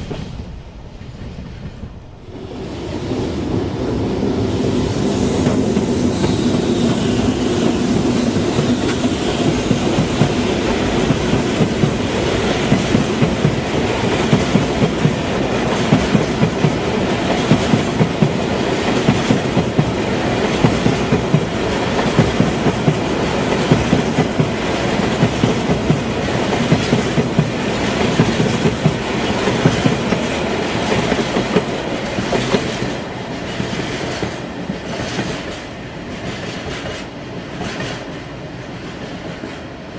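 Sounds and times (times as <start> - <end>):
freight train rumble: 0.0 - 39.9
train wheels clicking over rail joints: 5.4 - 38.2.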